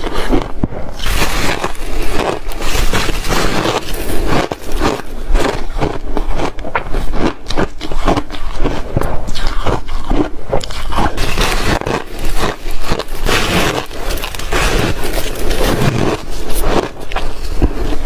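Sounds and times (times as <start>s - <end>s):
ice being crunched and chewed: 0.0s - 18.0s.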